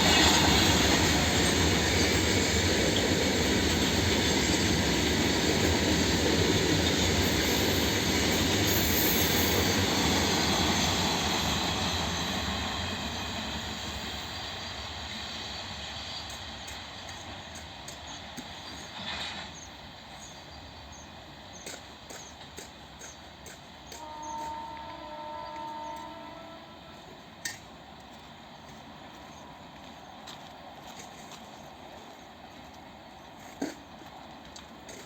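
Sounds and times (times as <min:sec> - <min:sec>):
train wheels rattling on rails: 0:00.0 - 0:35.0.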